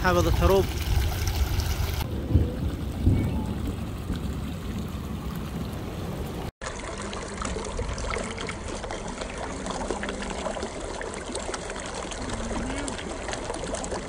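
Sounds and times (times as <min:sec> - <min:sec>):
flood water rushing over stones: 0:00.0 - 0:14.0.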